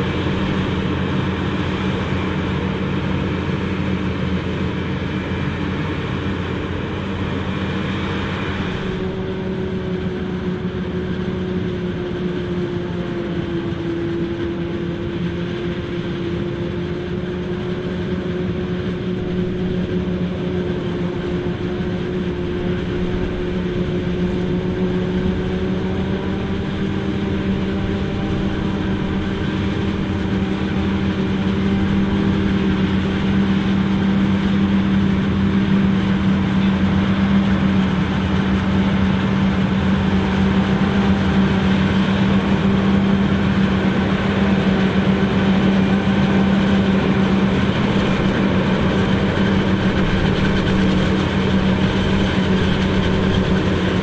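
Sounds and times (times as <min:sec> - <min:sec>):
forage harvester machine drone: 0:00.0 - 0:54.0.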